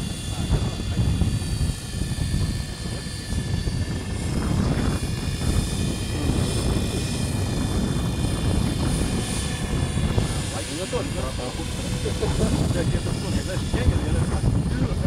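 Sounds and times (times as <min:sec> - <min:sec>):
helicopter rotor whine: 0:00.0 - 0:15.0
low rumble: 0:00.0 - 0:15.0.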